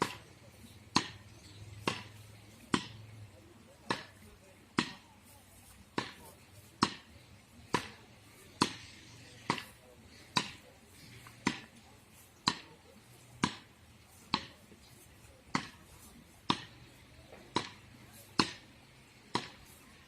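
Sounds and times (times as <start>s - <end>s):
tennis ball bouncing: 0.0s - 20.0s
tennis ball struck with rackets: 0.0s - 20.0s.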